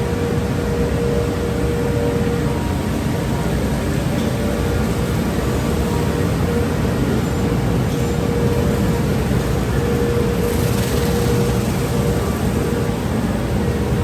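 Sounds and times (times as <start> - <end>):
car wash machinery and spray: 0.0 - 14.0.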